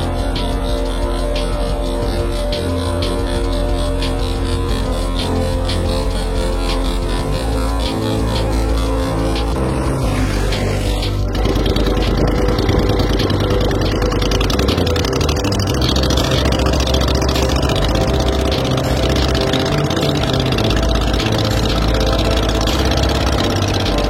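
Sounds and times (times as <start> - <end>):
boat engine running steadily: 0.0 - 24.0.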